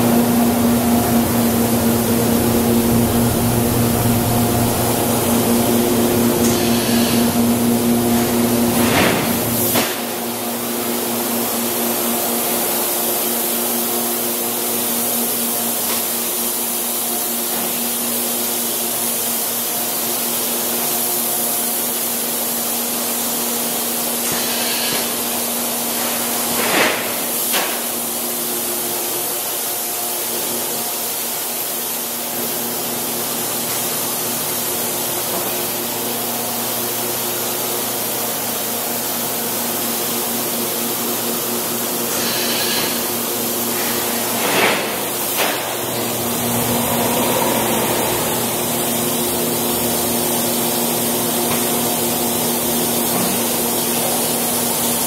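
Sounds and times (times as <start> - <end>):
industrial machinery humming: 0.0 - 55.0.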